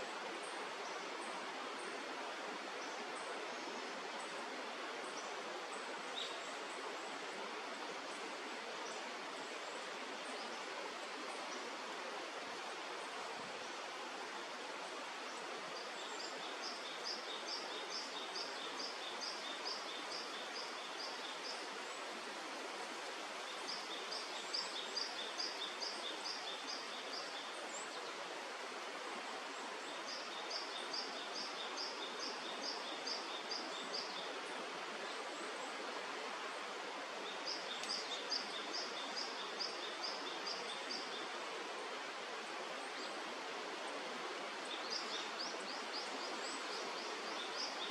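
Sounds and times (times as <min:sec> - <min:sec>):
river rushing: 0:00.0 - 0:47.9.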